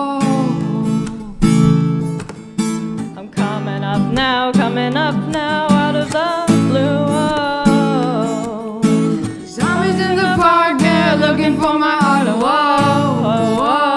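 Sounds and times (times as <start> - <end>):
person singing wordless melody: 0.0 - 2.2, 3.0 - 13.9
acoustic guitar strummed: 0.0 - 13.9.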